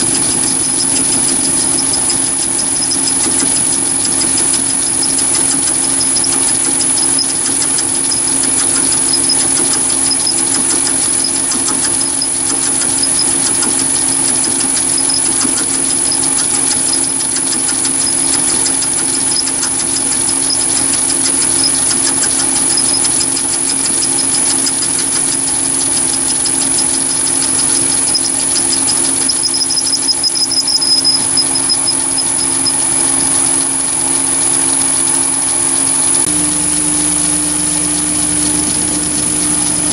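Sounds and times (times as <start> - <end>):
lathe motor hum with high whine: 0.0 - 39.9
rapid chatter of metal cutting: 0.0 - 39.9.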